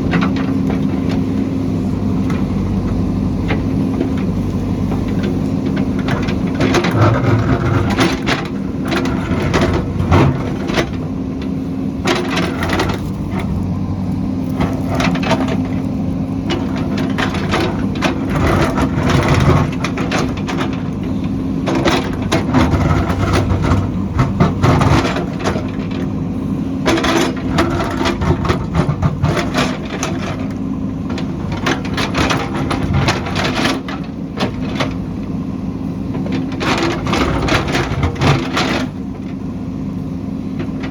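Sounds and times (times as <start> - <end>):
diesel engine under load: 0.0 - 40.9
soil and rock cracking: 0.0 - 40.9.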